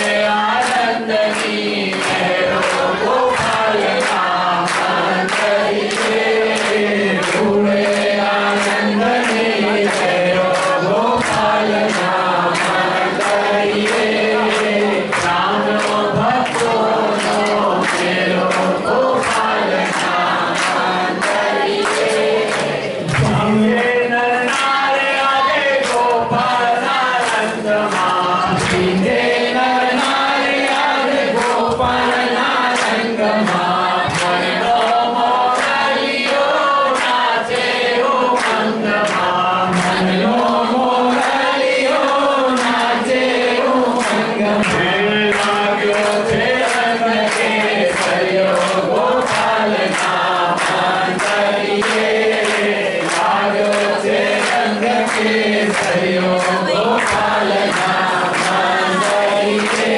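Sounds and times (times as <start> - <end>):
congregation singing: 0.0 - 59.9
hand-clapping in time: 0.0 - 59.9.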